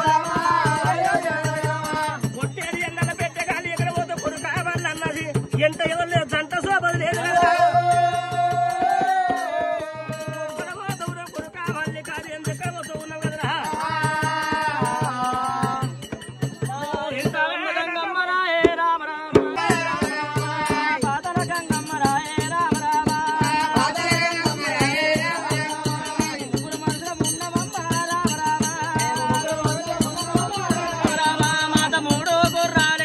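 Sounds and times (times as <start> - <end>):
person singing folk song: 0.0 - 16.0, 16.6 - 33.0
barrel drum beating: 0.0 - 17.4, 19.4 - 33.0
rattling percussion: 0.0 - 17.4, 19.4 - 33.0.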